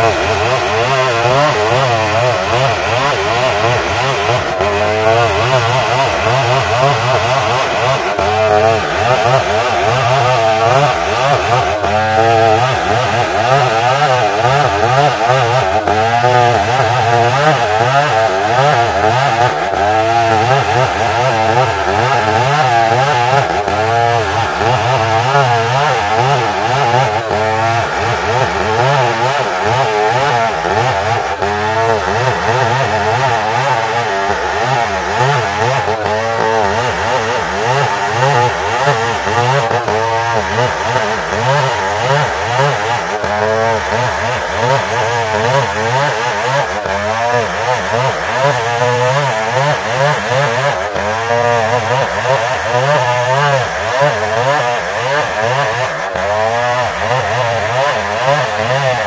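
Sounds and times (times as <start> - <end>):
chainsaw cutting wood at full throttle: 0.0 - 59.0.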